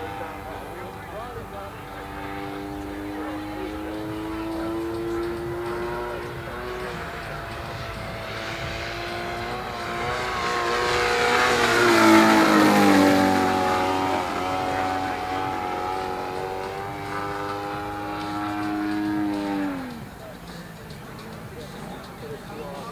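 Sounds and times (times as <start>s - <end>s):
model aeroplane flying past: 0.0s - 21.5s.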